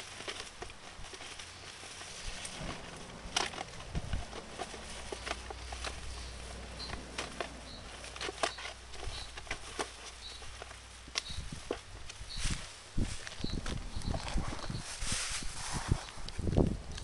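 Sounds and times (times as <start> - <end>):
light crackles and clicks: 0.0 - 14.8
steady low rumble: 2.0 - 9.7, 10.6 - 17.0.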